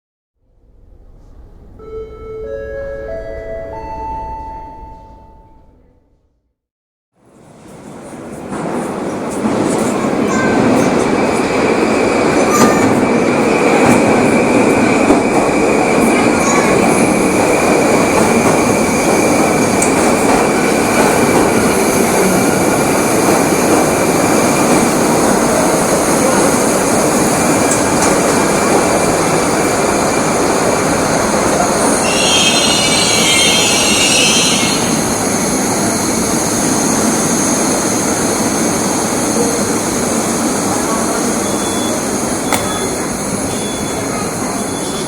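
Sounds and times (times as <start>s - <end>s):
train wheels rumbling on rail: 7.2s - 45.0s.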